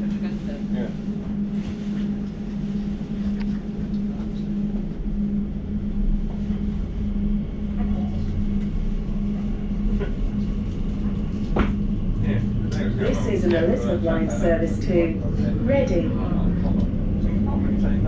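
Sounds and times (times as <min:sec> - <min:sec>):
constant hum: 0:00.0 - 0:18.0
train rumbling in a tunnel: 0:00.0 - 0:18.0.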